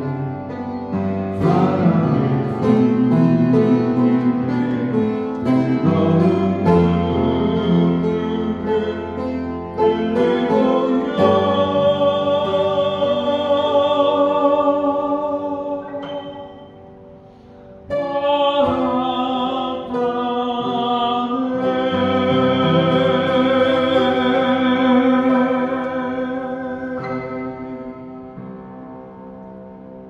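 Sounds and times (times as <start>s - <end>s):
upright piano: 0.0s - 30.0s
man singing: 1.3s - 16.6s, 17.9s - 28.0s.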